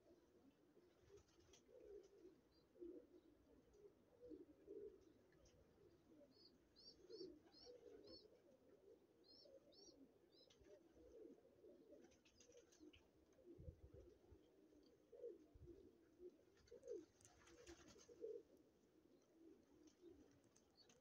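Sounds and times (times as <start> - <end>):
pigeons cooing softly: 0.0 - 21.0.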